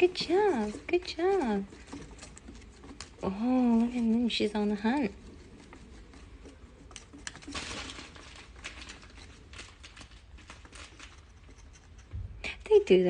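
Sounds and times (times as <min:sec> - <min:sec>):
kittens scuffling and pouncing: 0:00.0 - 0:12.6.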